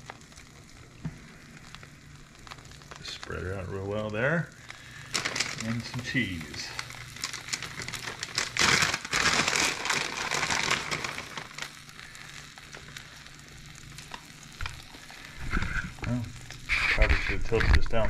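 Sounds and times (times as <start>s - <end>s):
pancake sizzling in a pan: 0.0s - 18.0s.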